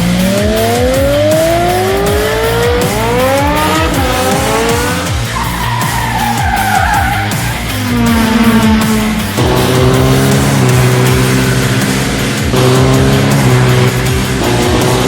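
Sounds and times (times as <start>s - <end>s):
background music with steady beat: 0.0s - 15.0s.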